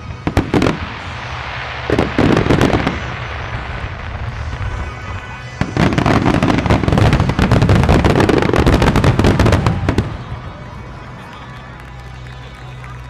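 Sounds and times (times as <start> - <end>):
fireworks rumble and crackle: 0.0 - 13.0
rapid fireworks bursts: 0.0 - 13.0.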